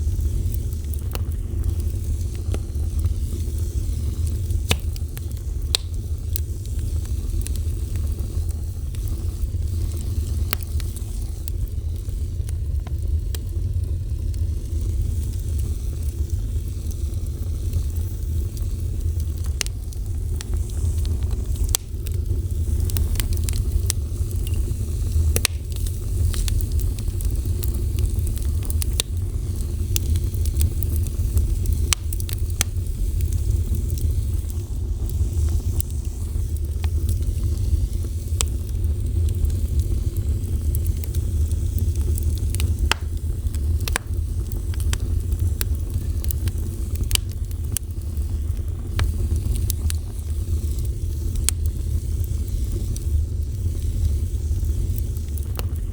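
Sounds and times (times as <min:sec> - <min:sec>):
fire roaring: 0:00.0 - 0:55.9
wood crackling and popping: 0:00.0 - 0:55.9.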